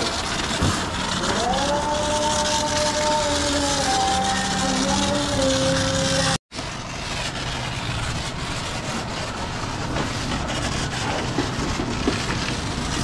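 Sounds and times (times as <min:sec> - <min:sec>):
pressure washer pump drone: 0:00.0 - 0:13.0.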